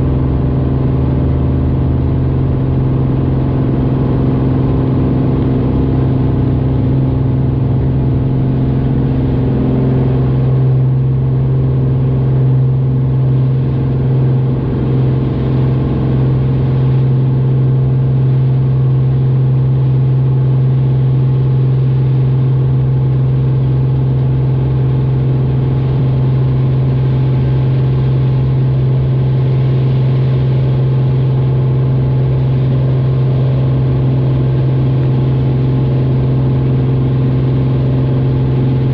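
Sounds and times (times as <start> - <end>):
light airplane engine drone: 0.0 - 38.9.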